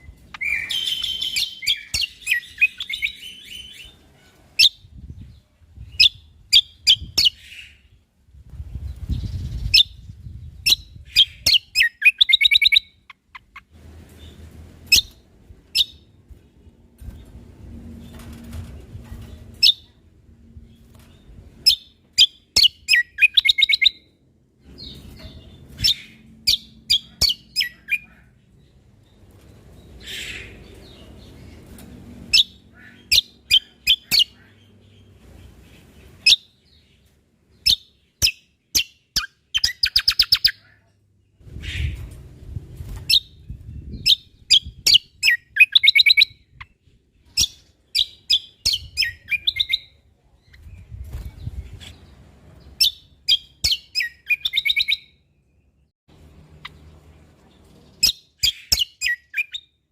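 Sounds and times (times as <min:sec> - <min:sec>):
bird chirps and trills: 0:00.0 - 0:08.0, 0:08.7 - 0:16.2, 0:20.6 - 0:42.2, 0:43.0 - 0:59.8.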